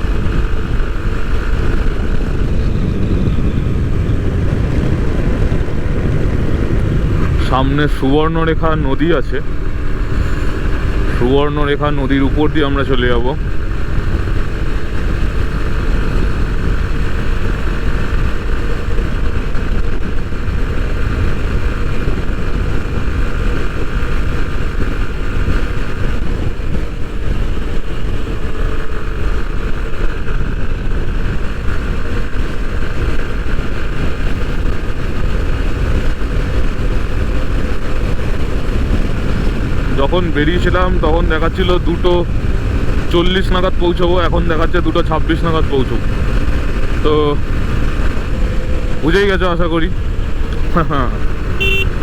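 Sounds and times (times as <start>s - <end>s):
motorcycle engine cruising: 0.0s - 52.0s
wind rumble on microphone: 0.0s - 52.0s.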